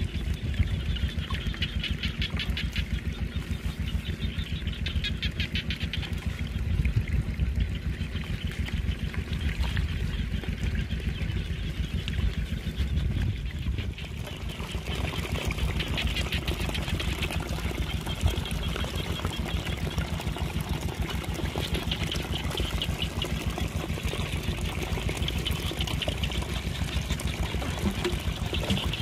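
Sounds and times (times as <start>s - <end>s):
small engine running: 0.0s - 29.0s
water splashing: 0.0s - 29.0s.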